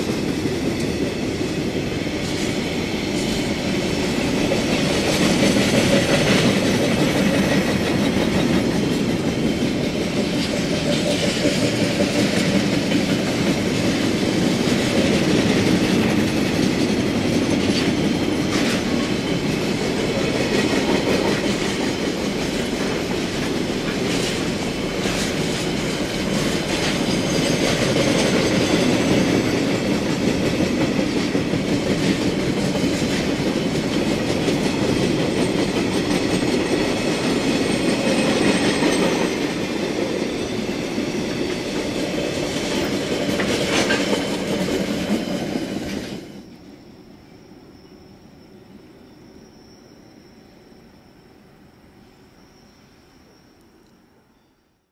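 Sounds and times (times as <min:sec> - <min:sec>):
train wheels on rails: 0:00.0 - 0:54.5.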